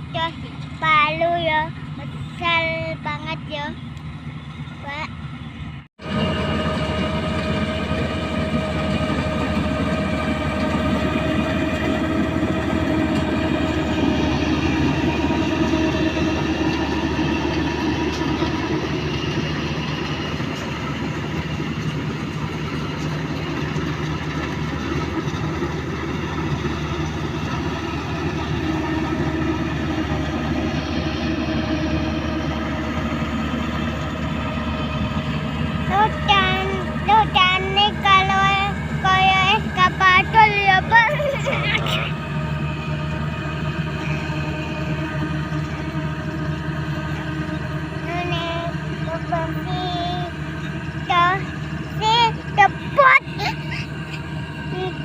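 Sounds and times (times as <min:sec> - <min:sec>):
diesel engine droning: 0:00.0 - 0:55.0
high machinery whines: 0:00.0 - 0:55.0.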